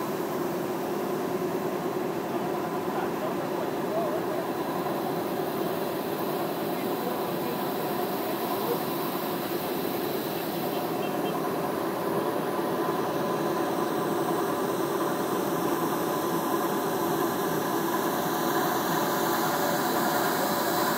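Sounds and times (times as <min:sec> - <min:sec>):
steady droning hum: 0:00.0 - 0:20.9.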